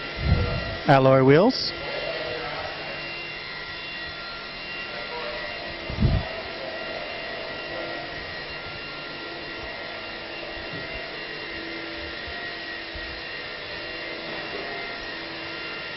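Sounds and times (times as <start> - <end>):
steady whirring hum: 0.0 - 15.9.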